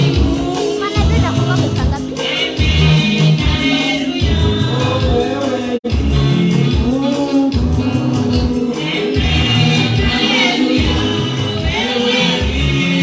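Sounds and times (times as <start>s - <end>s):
gospel singing: 0.0s - 13.0s
pulsing bass beat: 0.0s - 13.0s.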